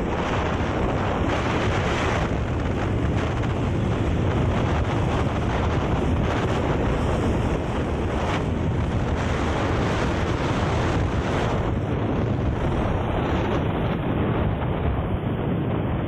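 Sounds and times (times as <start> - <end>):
motorcycle road noise: 0.0 - 16.0
wind buffeting microphone: 0.0 - 16.0.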